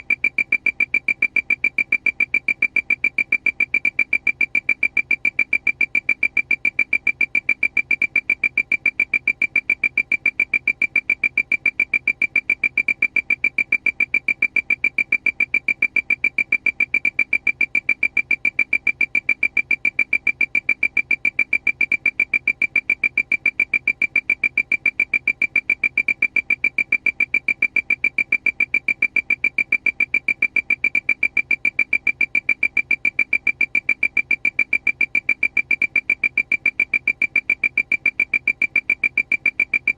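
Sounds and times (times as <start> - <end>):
rapid high-pitched electronic beeps: 0.0 - 39.9.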